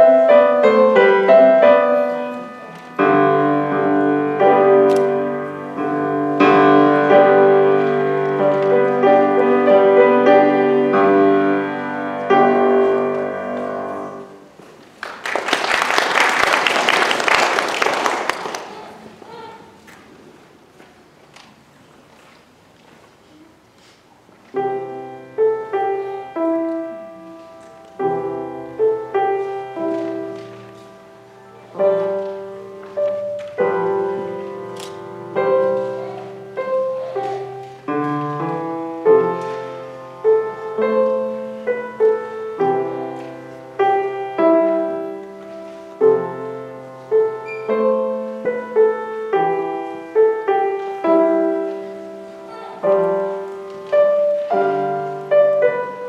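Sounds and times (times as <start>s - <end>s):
solo piano classical piece: 0.0s - 14.9s, 24.2s - 56.0s.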